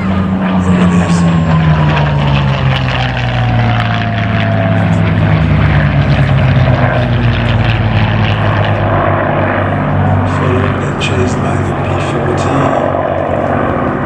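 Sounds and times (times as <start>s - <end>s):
propeller plane engine flypast: 0.0s - 14.0s.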